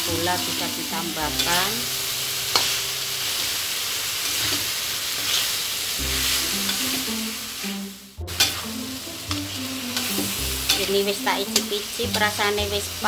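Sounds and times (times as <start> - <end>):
background music: 0.0 - 4.6, 5.9 - 13.0
vegetables sizzling in a wok: 0.0 - 13.0
metal spatula scraping a wok: 0.5 - 7.1, 8.3 - 12.6.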